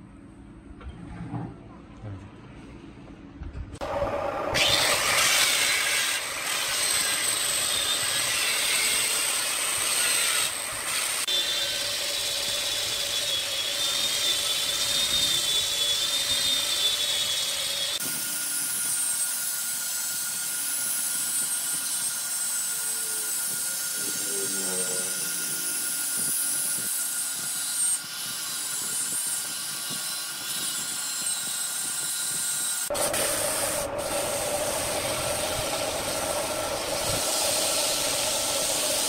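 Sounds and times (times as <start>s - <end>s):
angle grinder sanding wood: 3.8s - 39.0s.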